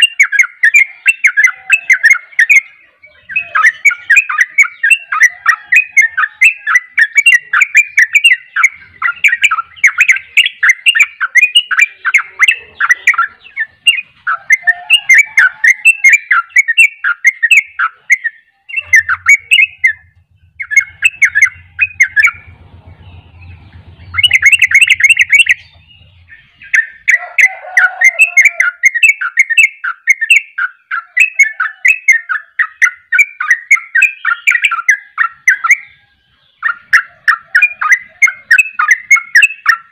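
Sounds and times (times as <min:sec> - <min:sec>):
bulbul singing chattering notes: 0:00.0 - 0:39.9.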